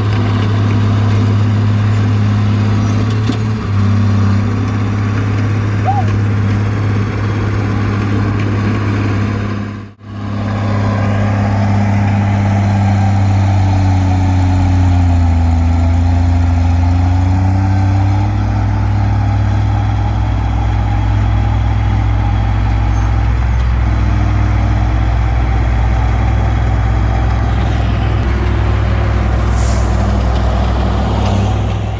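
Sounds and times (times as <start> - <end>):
bulldozer diesel engine humming: 0.0 - 31.9.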